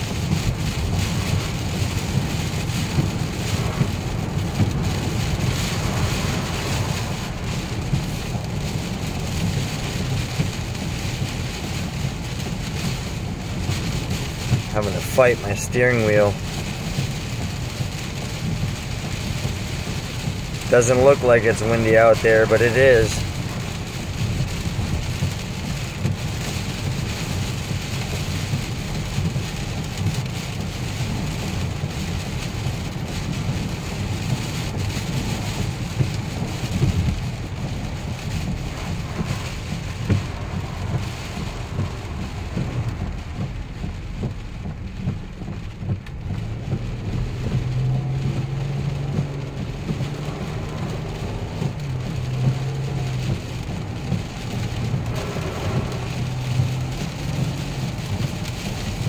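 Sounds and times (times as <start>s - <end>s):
heavy rain on car: 0.0s - 59.0s
wind and road noise rumble: 0.0s - 59.0s.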